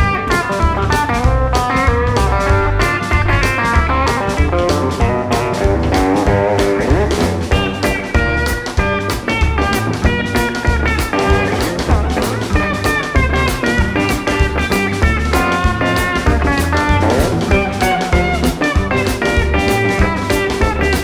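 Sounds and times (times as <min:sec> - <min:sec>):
drum kit: 0:00.0 - 0:21.0
electric guitar melodic lines: 0:00.0 - 0:21.0
plucked double bass: 0:00.0 - 0:21.0.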